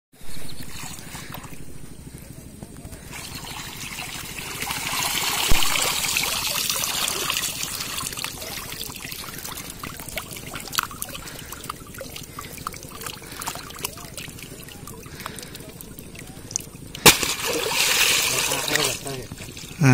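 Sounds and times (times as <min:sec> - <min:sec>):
water pouring and dripping: 0:03.1 - 0:19.8.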